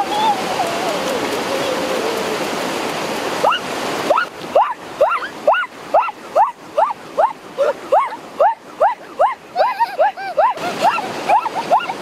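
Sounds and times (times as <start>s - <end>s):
rushing stream water: 0.0s - 12.0s.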